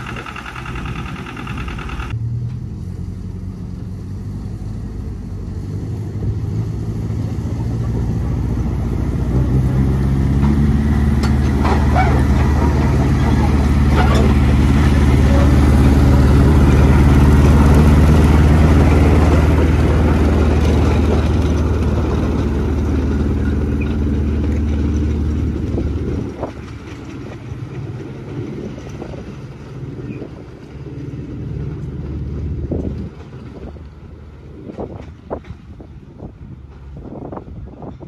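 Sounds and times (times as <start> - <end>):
locomotive engine running: 0.0 - 38.0.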